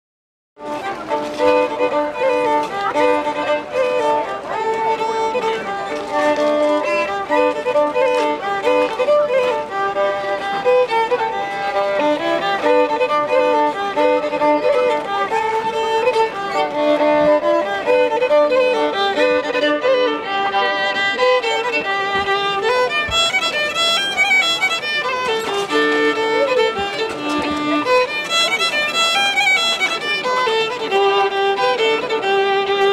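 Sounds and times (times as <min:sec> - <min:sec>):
lively fiddle tune: 0:00.6 - 0:32.9.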